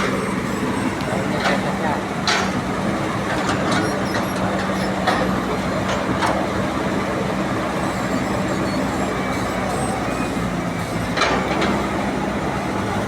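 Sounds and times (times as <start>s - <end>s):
heavy machinery engine drone: 0.0s - 13.0s.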